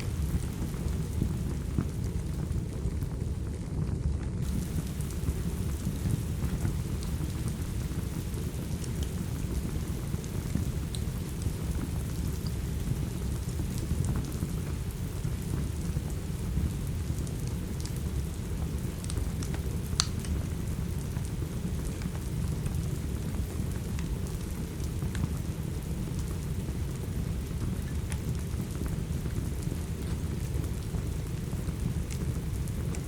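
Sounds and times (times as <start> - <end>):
steady rain: 0.0 - 33.0
wood fire crackling and popping: 0.0 - 33.0.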